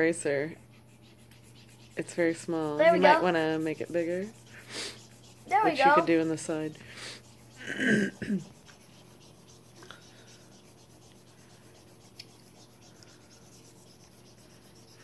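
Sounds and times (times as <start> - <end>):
stylus scratching on tablet: 0.0 - 15.0.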